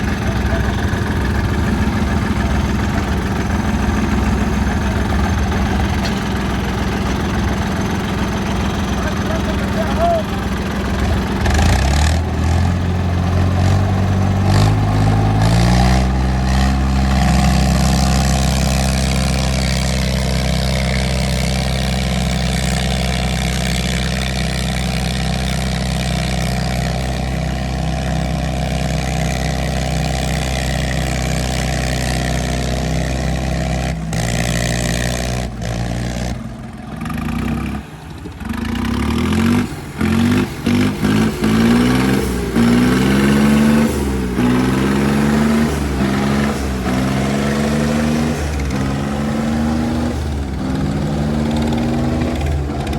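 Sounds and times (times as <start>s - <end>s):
tractor engines revving under load: 0.0s - 52.9s.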